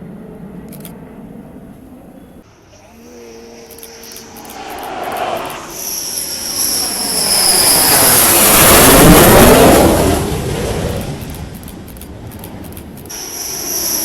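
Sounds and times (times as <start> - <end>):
jet engine whine and rush: 0.0 - 14.0.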